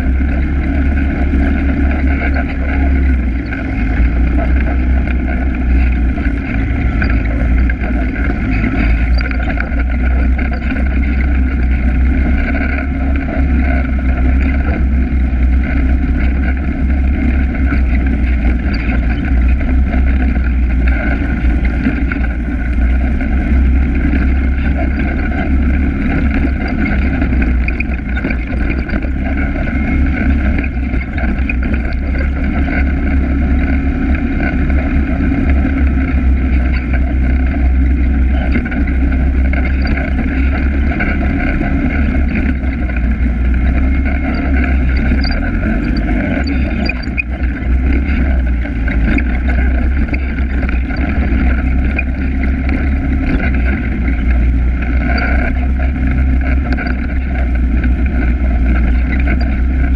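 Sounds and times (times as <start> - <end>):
atv engine droning: 0.0 - 59.9.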